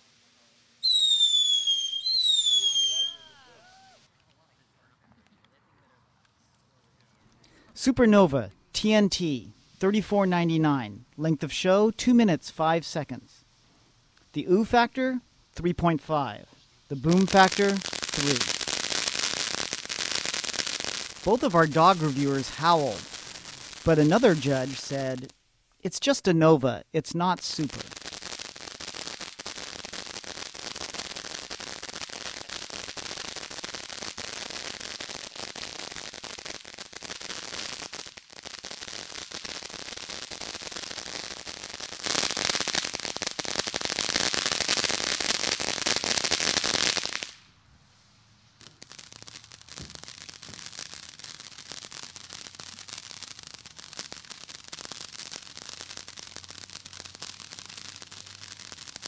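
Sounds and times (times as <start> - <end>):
firework fountain crackling hiss: 0.0 - 5.4, 8.8 - 10.1, 10.9 - 26.2, 27.0 - 59.0.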